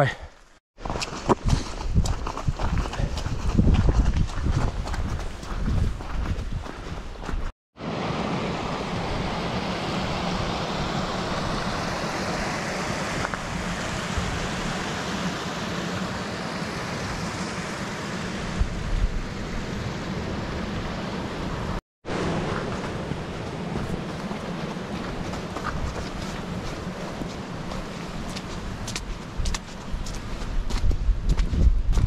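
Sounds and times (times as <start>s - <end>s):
wind rushing over microphone: 1.3s - 32.0s.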